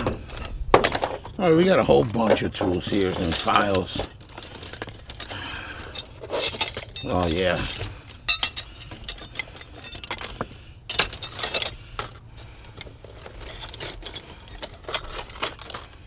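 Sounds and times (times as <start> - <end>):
metal hand tools clinking: 2.7 - 16.0.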